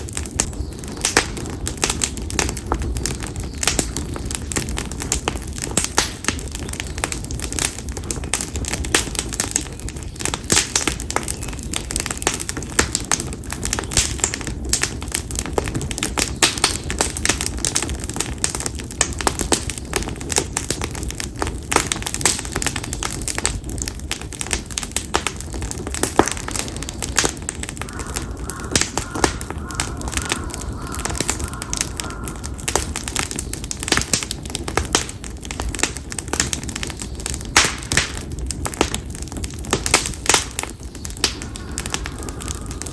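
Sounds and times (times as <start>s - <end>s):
campfire crackling: 0.0s - 42.9s
low rumble of flames: 0.0s - 42.9s.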